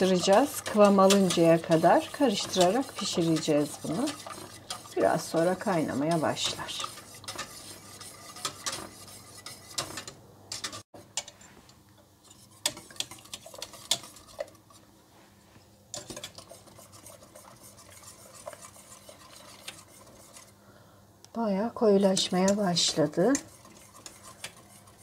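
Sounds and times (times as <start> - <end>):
whisk scraping a steel pot: 0.0 - 11.0, 12.2 - 14.8, 15.9 - 20.6, 21.8 - 25.0.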